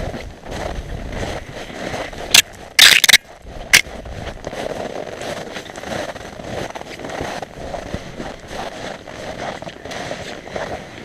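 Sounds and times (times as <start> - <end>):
footsteps crunching through snow: 0.0 - 11.0
sharp scraping crackles: 0.5 - 11.0.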